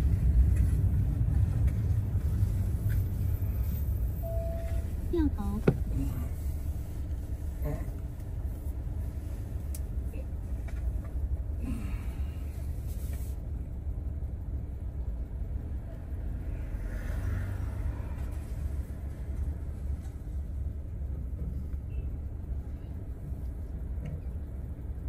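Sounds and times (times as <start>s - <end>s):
car engine rumble: 0.0s - 25.0s
road noise: 0.0s - 25.0s.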